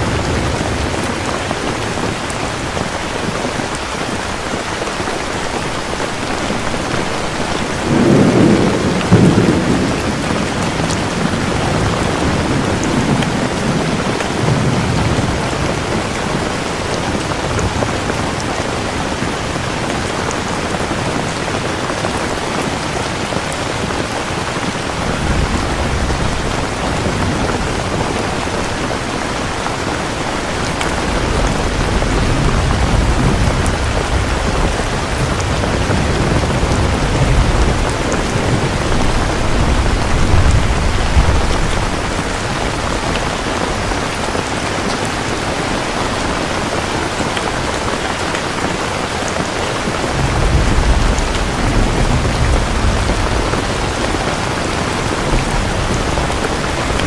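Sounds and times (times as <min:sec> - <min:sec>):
heavy rain falling: 0:00.0 - 0:57.0
low rolling thunder: 0:06.6 - 0:44.6, 0:49.3 - 0:57.0.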